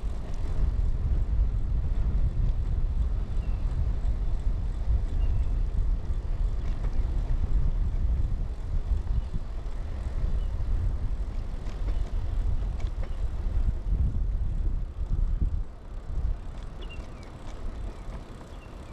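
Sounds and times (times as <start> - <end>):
bicycle tyres rolling: 0.0 - 18.9
bike ticks and rattles: 0.0 - 18.9
wind buffeting camera: 0.0 - 18.9.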